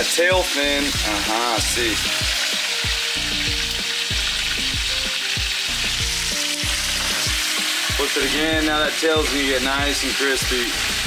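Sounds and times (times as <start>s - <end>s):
background music with a beat: 0.0s - 11.0s
oil sizzling around frying fish: 0.0s - 11.0s.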